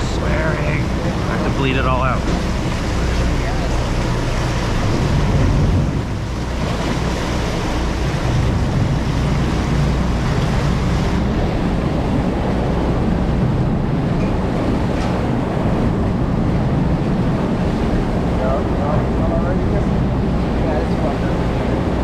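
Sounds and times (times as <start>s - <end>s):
boat engines humming: 0.0s - 22.0s
sea noise: 0.0s - 22.0s
wind on microphone: 0.0s - 22.0s.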